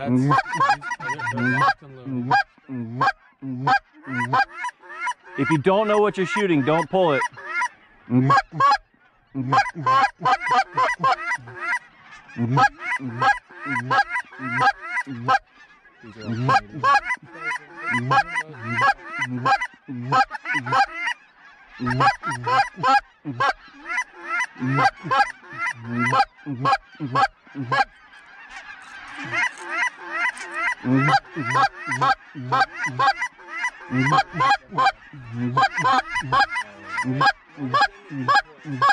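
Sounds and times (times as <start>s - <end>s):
goose honking: 0.0s - 38.9s.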